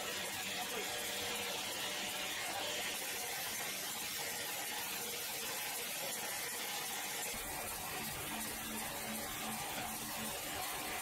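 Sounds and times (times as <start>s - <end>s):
sawmill running: 0.0s - 11.0s.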